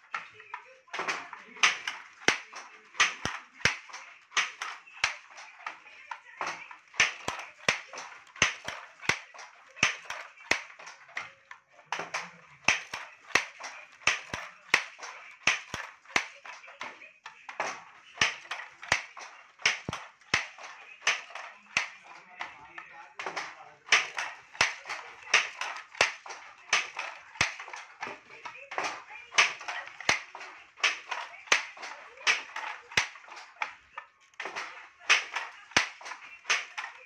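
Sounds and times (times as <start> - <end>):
wooden loom clacking: 0.0 - 37.0.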